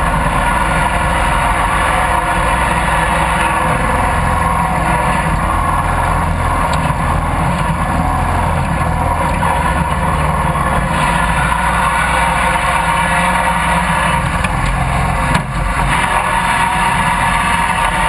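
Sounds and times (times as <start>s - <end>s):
riding lawn mower engine: 0.0s - 18.0s.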